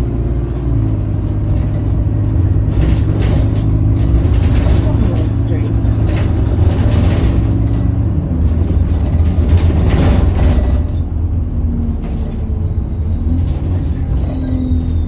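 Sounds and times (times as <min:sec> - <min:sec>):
diesel engine rumble: 0:00.0 - 0:15.0.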